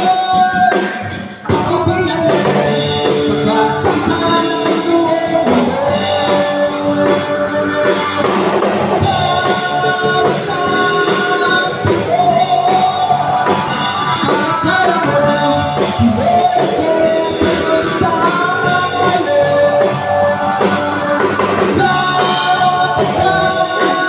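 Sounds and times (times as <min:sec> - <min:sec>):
drum kit: 0:00.0 - 0:24.0
electric guitar: 0:00.0 - 0:24.0
man singing into a microphone: 0:00.0 - 0:24.0
electric bass: 0:01.4 - 0:24.0.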